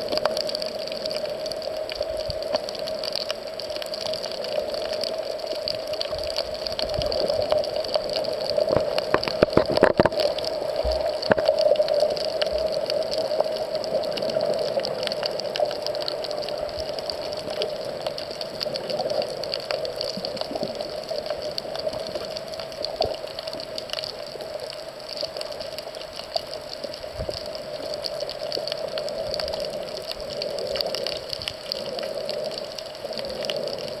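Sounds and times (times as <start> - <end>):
faint clicks and crackles: 0.0 - 34.0
muffled underwater water rush: 0.0 - 34.0.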